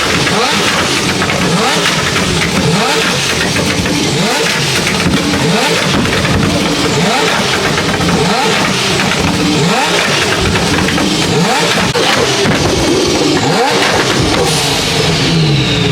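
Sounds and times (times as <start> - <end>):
car engines revving: 0.0 - 15.9.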